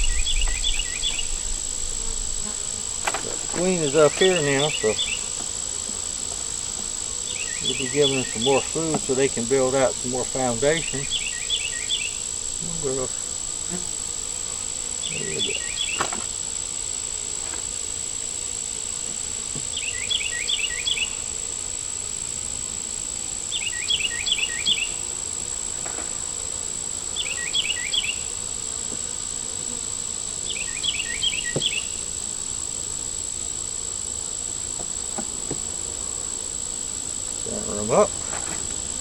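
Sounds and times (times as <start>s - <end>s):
honey bees droning: 0.0s - 39.0s.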